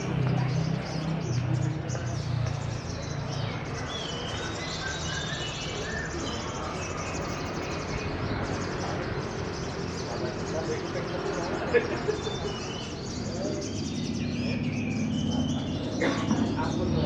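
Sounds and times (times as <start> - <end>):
murmur of crowd voices: 0.0 - 17.0
songbirds singing: 0.0 - 17.0.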